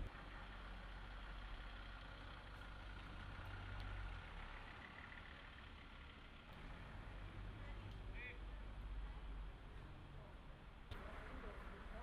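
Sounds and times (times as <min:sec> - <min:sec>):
faint engine idling: 0:00.0 - 0:12.0.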